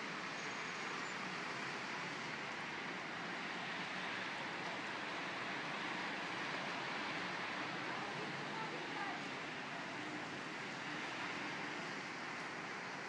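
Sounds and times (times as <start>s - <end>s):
city street ambience: 0.0s - 13.0s.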